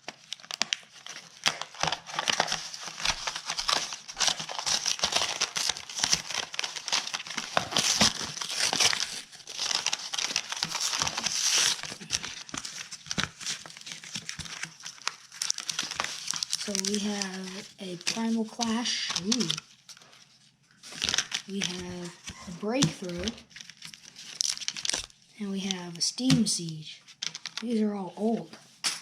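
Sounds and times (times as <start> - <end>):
plastic packaging crinkling and tearing: 0.0 - 27.8.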